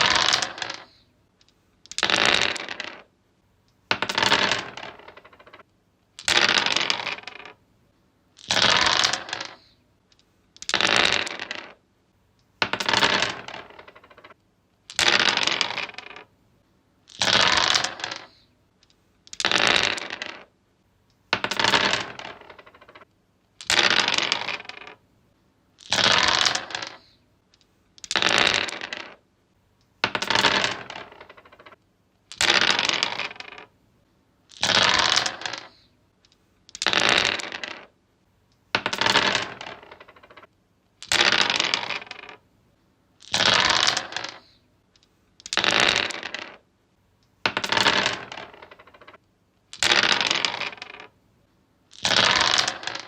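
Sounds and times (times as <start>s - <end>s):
dice rolling on wood: 0.0s - 7.6s, 8.4s - 16.4s, 17.0s - 25.0s, 25.8s - 33.8s, 34.5s - 38.0s, 38.6s - 42.5s, 43.2s - 51.2s, 51.9s - 53.0s.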